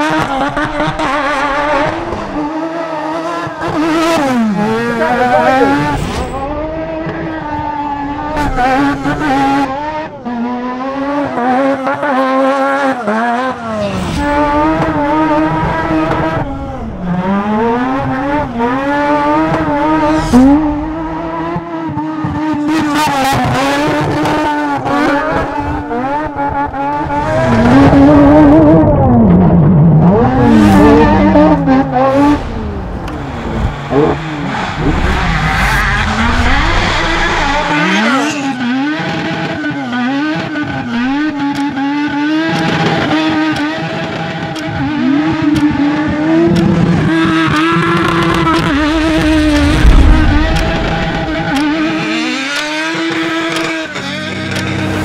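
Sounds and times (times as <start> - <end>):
race truck engine at full throttle: 0.0 - 55.0.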